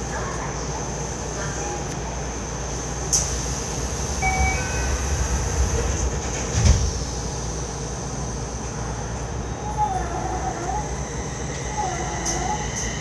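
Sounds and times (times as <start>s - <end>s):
train cabin hum and hiss: 0.0s - 13.0s.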